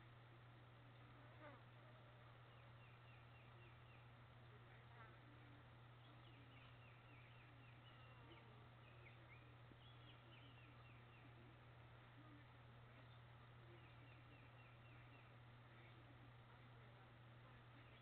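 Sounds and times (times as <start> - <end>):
steady low hum: 0.0 - 18.0
faint bird chirps and trills: 0.9 - 18.0.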